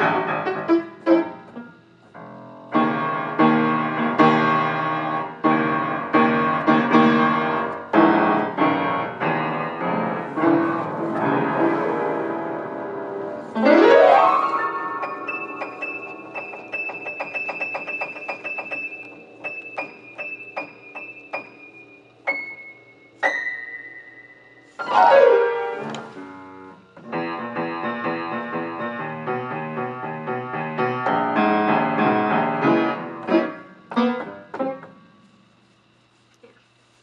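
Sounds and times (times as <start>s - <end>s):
piano playing: 0.0s - 34.9s.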